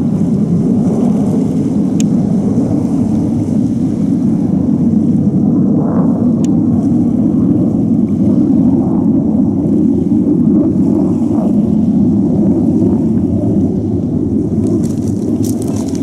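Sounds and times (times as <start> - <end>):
jet aircraft roaring overhead: 0.0 - 16.0.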